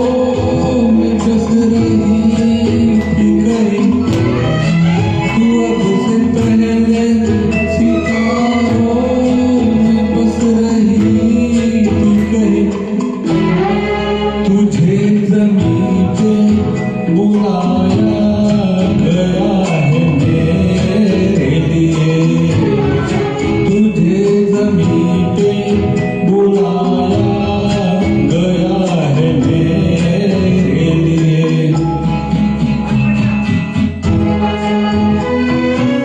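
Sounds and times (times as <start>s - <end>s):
person singing: 0.0s - 33.3s
karaoke backing track with strings: 0.0s - 36.0s.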